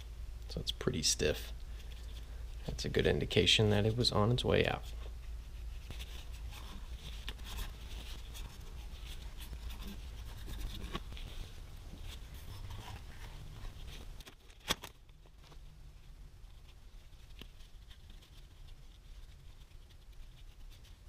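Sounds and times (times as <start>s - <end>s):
rustling and scraping of handling: 0.0s - 21.0s.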